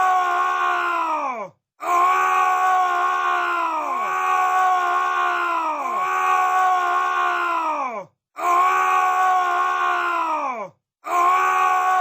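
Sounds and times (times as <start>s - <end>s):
man screaming: 0.0s - 12.0s.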